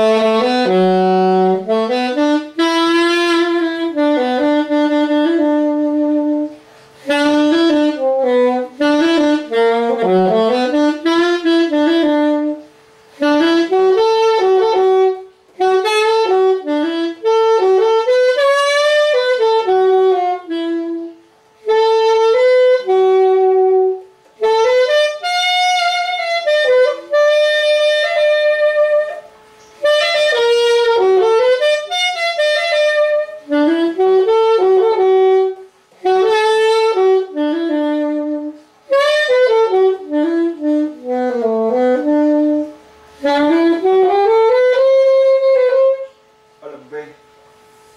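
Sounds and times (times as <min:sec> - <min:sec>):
alto saxophone melody: 0:00.0 - 0:47.9.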